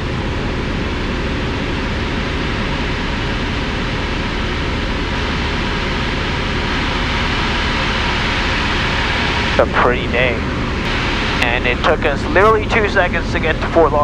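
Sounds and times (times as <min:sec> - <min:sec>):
aircraft engine and propeller drone: 0:00.0 - 0:14.0.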